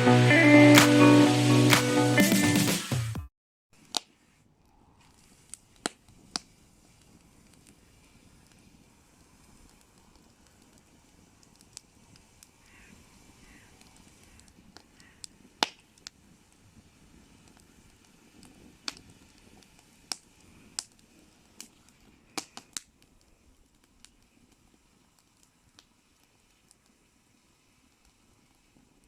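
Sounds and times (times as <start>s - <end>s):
campfire crackling: 3.8s - 29.0s
faint steady background noise: 3.8s - 29.0s.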